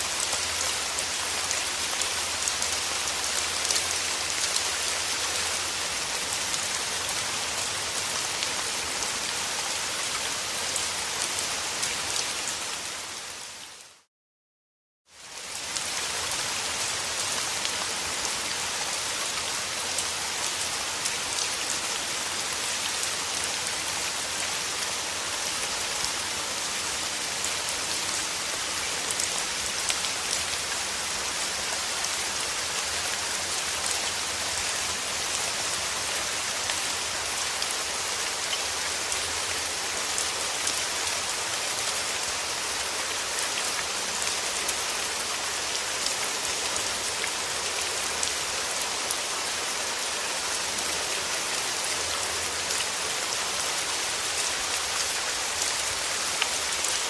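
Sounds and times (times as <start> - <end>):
rain falling on a surface: 0.0 - 14.1, 15.1 - 57.0.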